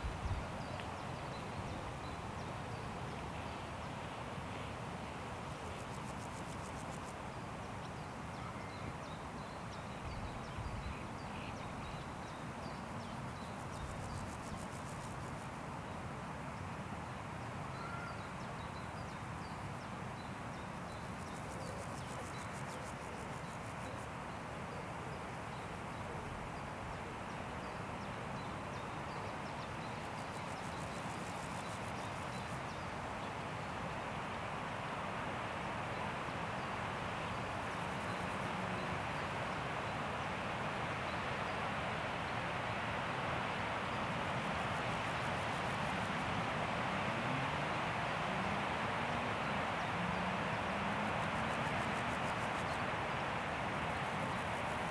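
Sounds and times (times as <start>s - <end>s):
wind rushing through trees: 0.0s - 54.9s.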